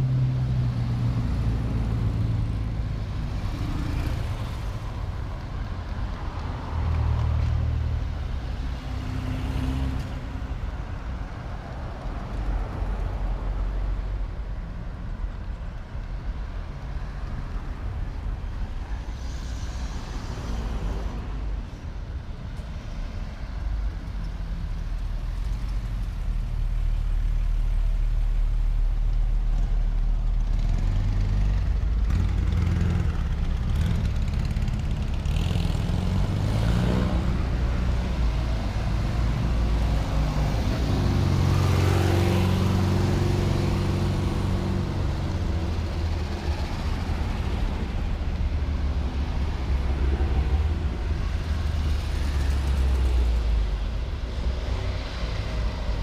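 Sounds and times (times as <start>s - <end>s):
cars driving past: 0.0s - 14.1s, 17.0s - 56.0s.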